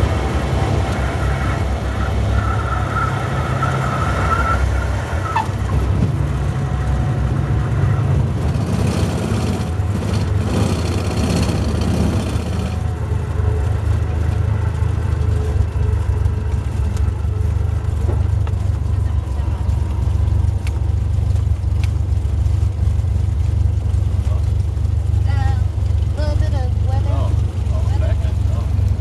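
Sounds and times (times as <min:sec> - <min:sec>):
plane engine and propeller drone: 0:00.0 - 0:29.0.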